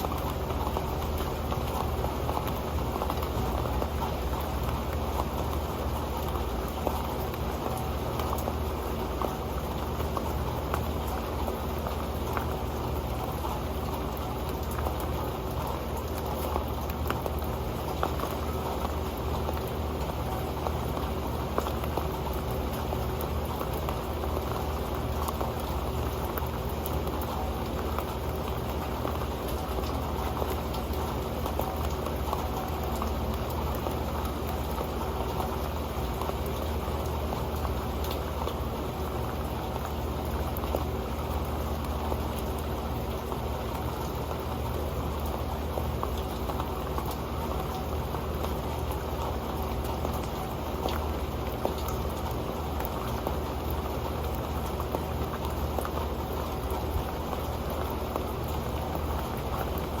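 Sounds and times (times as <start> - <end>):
rain patter on a metal pan: 0.0 - 60.0.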